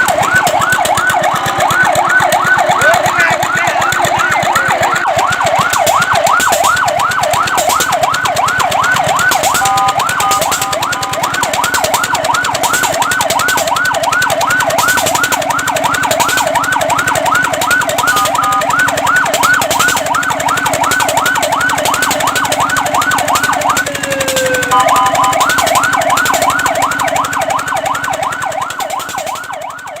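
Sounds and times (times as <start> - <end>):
fire truck siren yelping: 0.0 - 30.0.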